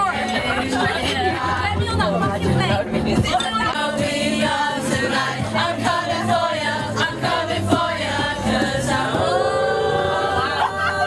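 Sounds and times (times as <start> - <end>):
group of people singing: 0.0 - 11.0
music: 0.0 - 11.0.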